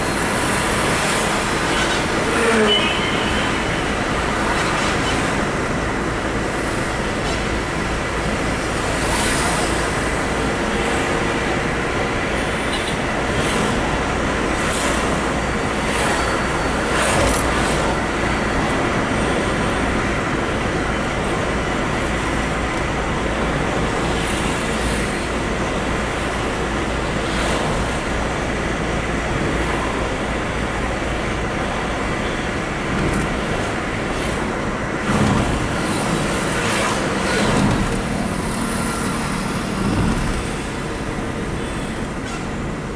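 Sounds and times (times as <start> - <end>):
vehicle road noise: 0.0 - 42.9.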